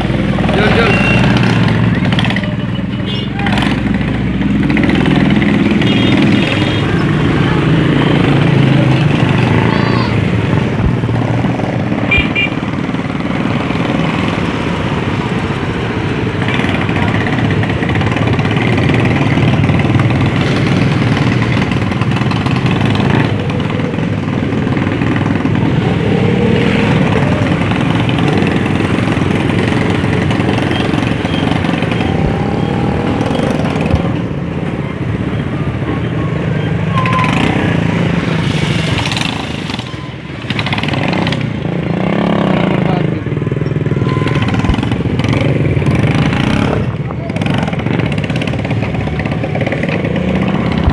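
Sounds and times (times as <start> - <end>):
faint voices: 0.0 - 50.9
vehicle engines running: 0.0 - 50.9.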